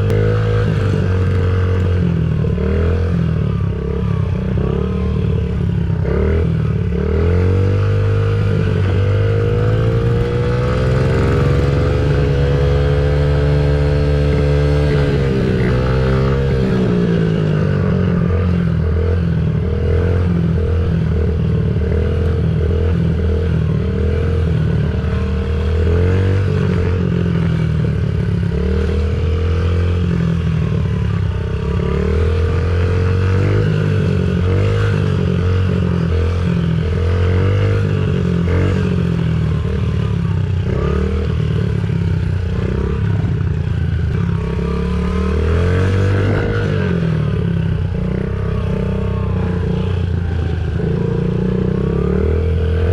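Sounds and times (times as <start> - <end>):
dirt bike engine revving: 0.0 - 30.4, 31.5 - 39.8, 40.5 - 52.9.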